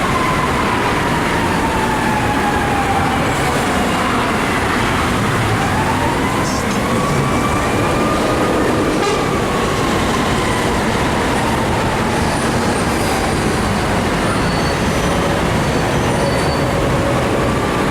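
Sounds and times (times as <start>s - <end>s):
engine and road noise: 0.0s - 17.9s
fire engine siren wailing: 0.0s - 17.9s.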